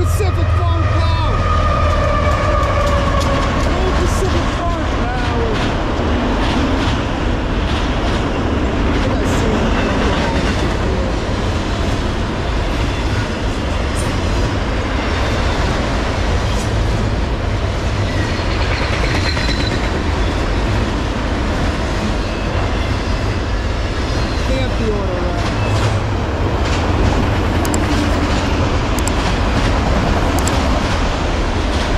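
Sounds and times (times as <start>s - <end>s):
freight cars rolling on rails: 0.0s - 31.9s.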